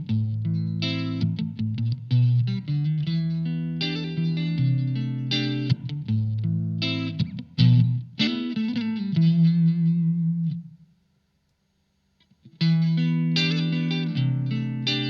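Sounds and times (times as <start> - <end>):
electric guitar notes and chords: 0.0 - 10.8, 12.4 - 15.0.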